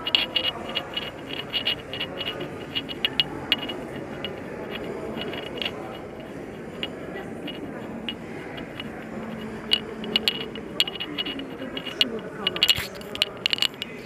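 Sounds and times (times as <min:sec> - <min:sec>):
crowd murmur: 0:00.0 - 0:14.0
sharp clicks and taps: 0:00.0 - 0:14.0.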